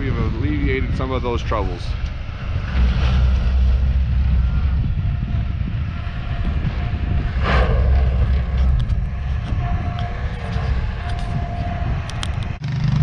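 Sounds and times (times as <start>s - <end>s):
faint steady whine: 0.0s - 12.6s
distant tractor shredding hay: 0.0s - 13.0s
wind rumble on microphone: 0.0s - 13.0s.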